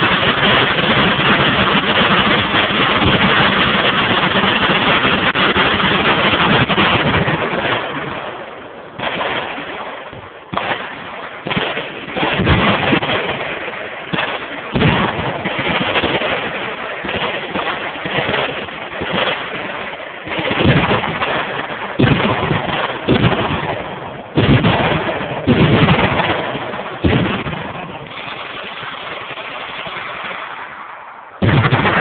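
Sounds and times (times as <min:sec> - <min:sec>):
heavy gunshot reports: 0:00.0 - 0:32.0.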